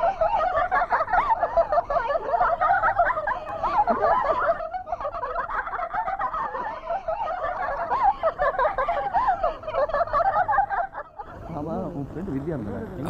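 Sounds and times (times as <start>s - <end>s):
women laughing: 0.0s - 11.5s.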